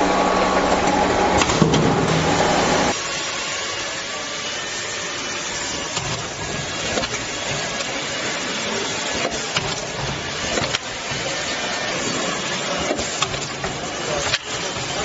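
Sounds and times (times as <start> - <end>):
sealing machine humming and hissing: 0.0 - 15.0.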